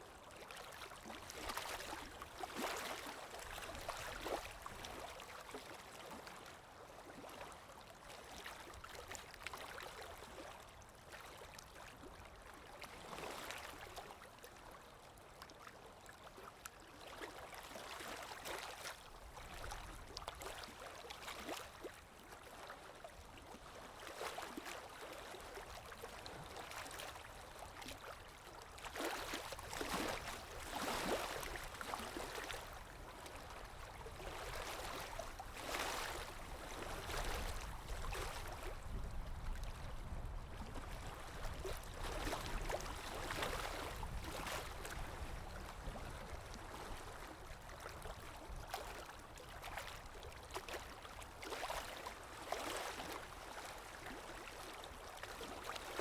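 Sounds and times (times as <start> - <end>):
water flowing and lapping: 0.0 - 56.0.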